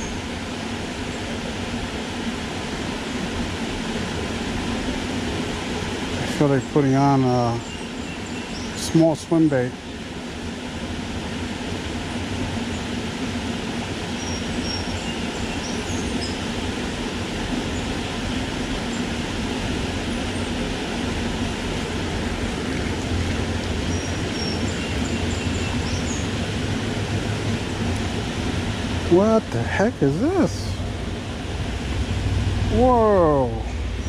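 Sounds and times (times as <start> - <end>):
water rushing at falls: 0.0 - 34.0.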